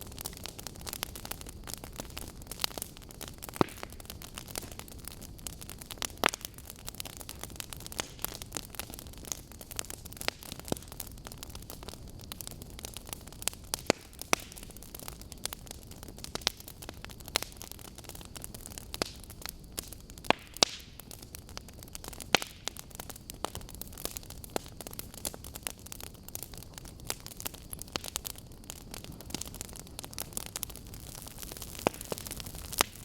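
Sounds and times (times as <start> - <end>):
low steady hiss: 0.0 - 33.0
wood fire crackling and popping: 0.0 - 33.0.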